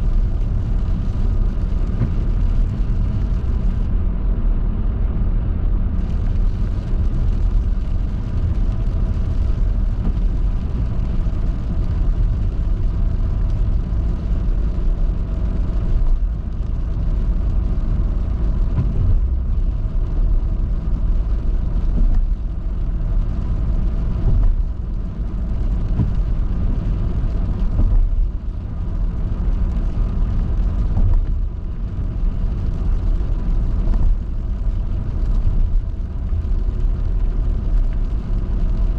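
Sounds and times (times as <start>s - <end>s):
engine and tyres rumbling on road: 0.0s - 38.9s.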